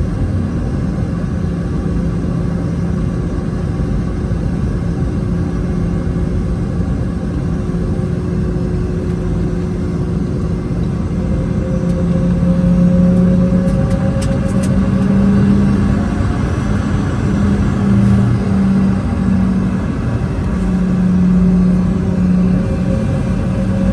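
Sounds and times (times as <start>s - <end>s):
jet engines droning: 0.0s - 23.9s.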